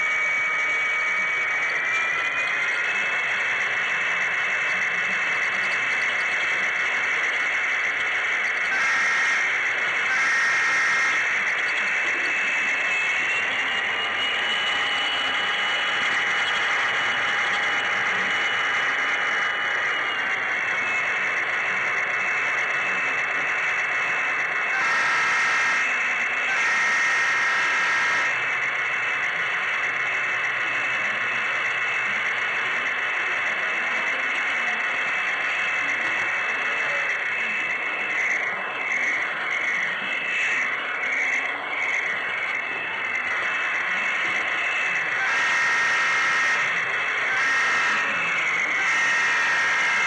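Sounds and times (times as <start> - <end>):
model train running on rails: 0.0 - 50.0.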